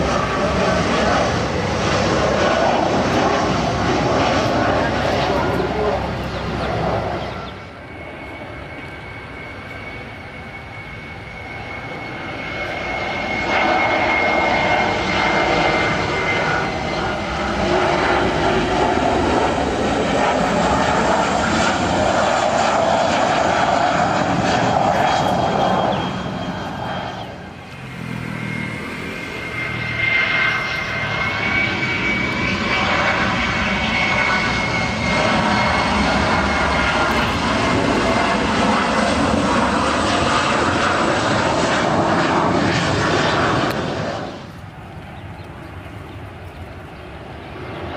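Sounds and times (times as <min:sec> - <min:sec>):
jet engines overhead: 0:00.0 - 0:47.9.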